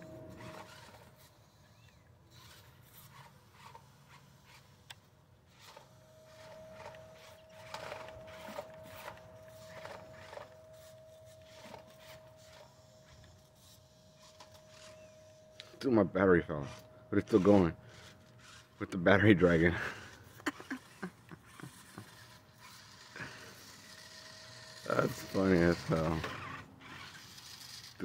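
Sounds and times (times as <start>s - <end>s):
toy truck driving over dirt: 0.0s - 15.4s, 16.6s - 19.7s, 20.5s - 28.0s
thin steady whine: 0.0s - 28.0s.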